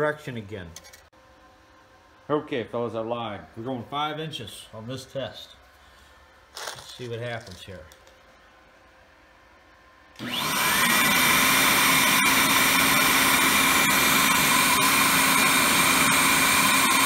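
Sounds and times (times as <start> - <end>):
air blower motor whine: 1.3 - 17.0.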